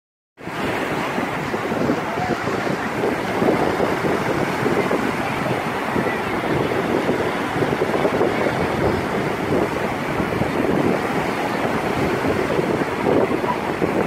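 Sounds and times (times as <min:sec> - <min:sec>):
small waves breaking on beach: 0:00.4 - 0:14.0
wind buffeting microphone: 0:00.4 - 0:14.0.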